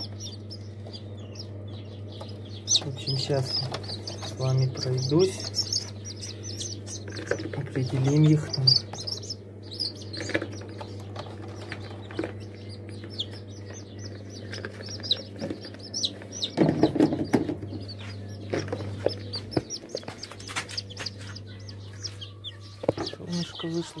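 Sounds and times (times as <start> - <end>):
chicks peeping: 0.0 - 24.0
steady low hum: 0.0 - 24.0.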